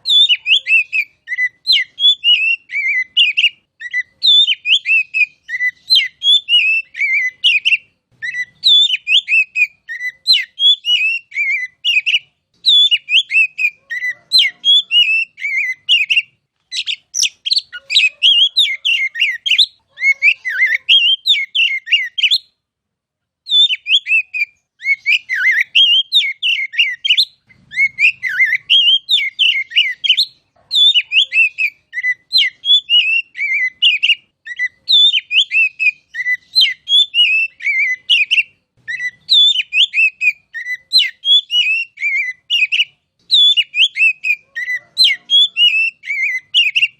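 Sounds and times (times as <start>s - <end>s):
bird singing whistled notes: 0.0s - 22.6s, 23.4s - 46.9s.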